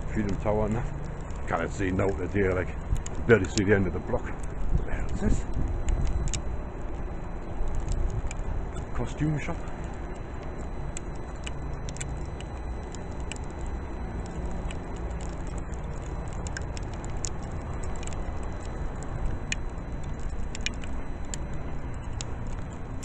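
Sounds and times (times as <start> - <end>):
low hum: 0.0 - 23.0
small clicks and ticks: 0.0 - 23.0.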